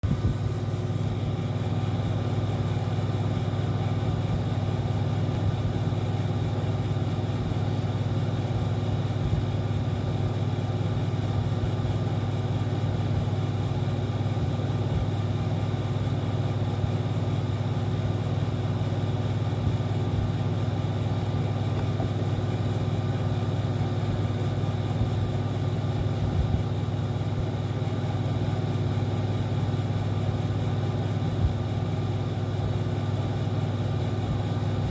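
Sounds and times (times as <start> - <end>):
air conditioner humming: 0.0 - 34.9.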